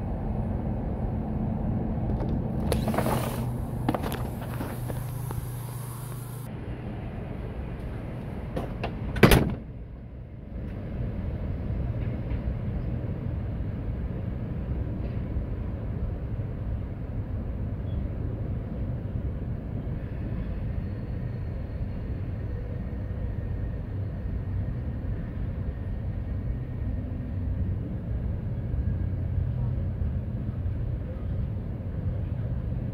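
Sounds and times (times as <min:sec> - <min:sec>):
freight train rumbling: 0:00.0 - 0:32.9.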